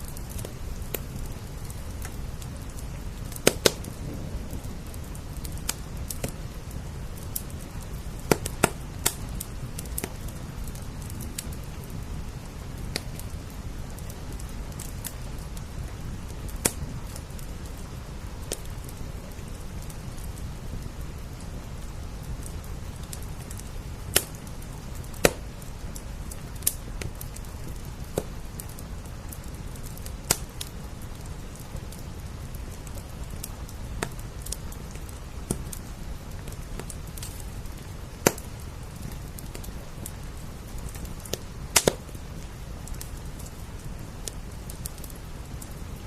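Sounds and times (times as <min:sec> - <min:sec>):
rain on glass: 0:00.0 - 0:46.0
wood fire crackling and popping: 0:00.0 - 0:46.0.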